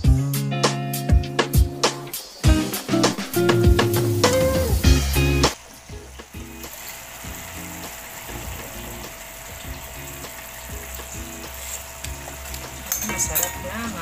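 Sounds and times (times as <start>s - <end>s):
meat sizzling in a pan: 2.4s - 14.0s.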